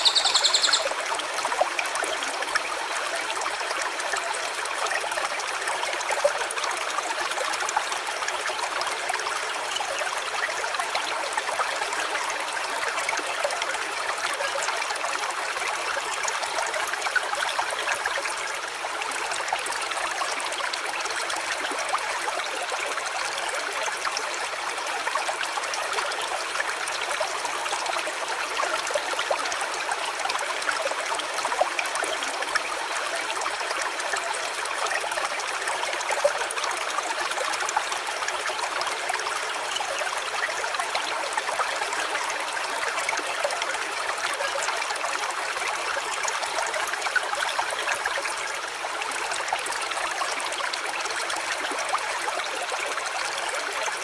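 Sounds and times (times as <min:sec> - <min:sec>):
stream trickling over stones: 0:00.0 - 0:54.0.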